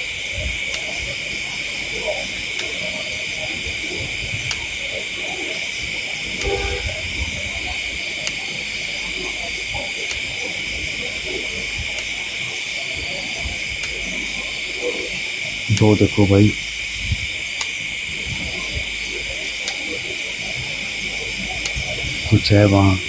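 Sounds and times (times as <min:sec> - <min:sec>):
night insects chirring: 0:00.0 - 0:23.0.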